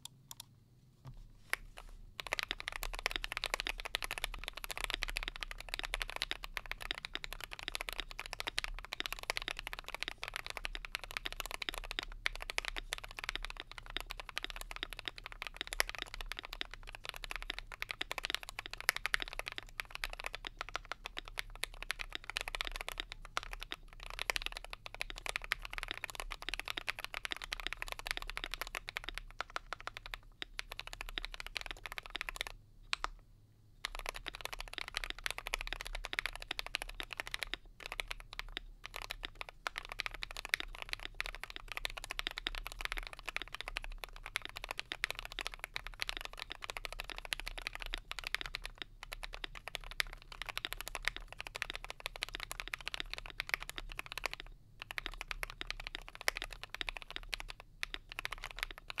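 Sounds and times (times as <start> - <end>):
mechanical keyboard typing: 0.0 - 0.5, 2.2 - 33.2, 33.8 - 59.0.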